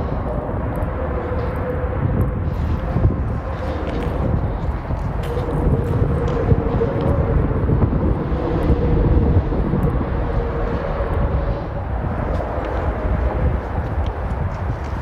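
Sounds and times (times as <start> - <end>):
distant engine rumble: 0.0 - 15.0
faint droning tone: 0.0 - 15.0.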